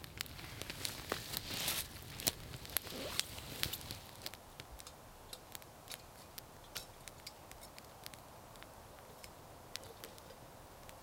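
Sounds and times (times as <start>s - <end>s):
campfire crackling and popping: 0.0s - 11.0s
rustling as fire is tended: 0.0s - 11.0s.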